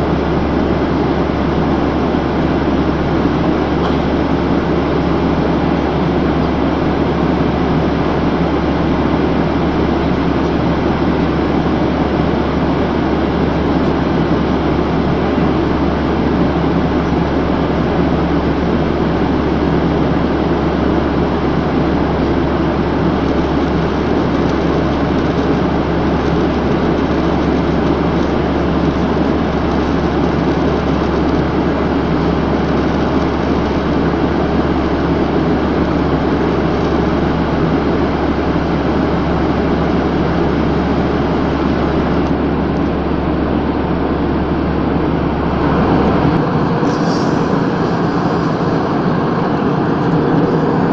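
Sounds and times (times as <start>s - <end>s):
airliner engine and airflow noise: 0.0s - 50.9s
constant low drone: 0.0s - 50.9s.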